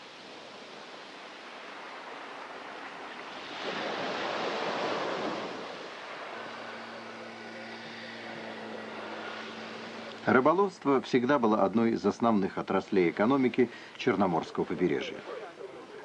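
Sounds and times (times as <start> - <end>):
surf on pebble beach: 0.0 - 15.8
outboard motor humming: 0.3 - 16.0.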